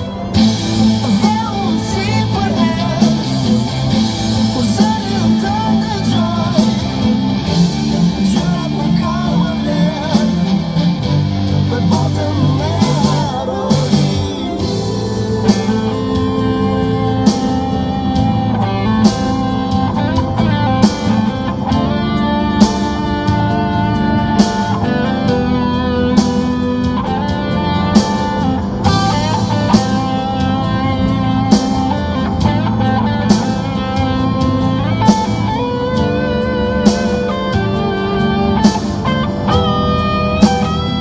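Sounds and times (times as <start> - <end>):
guitar-led music with drum beat: 0.0 - 41.0.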